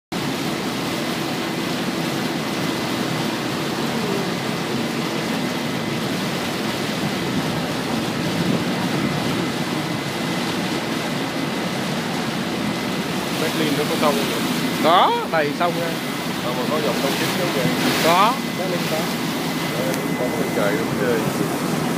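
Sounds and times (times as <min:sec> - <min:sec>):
boat engine drone: 0:00.1 - 0:21.9
water rushing along boat hull: 0:00.1 - 0:21.9.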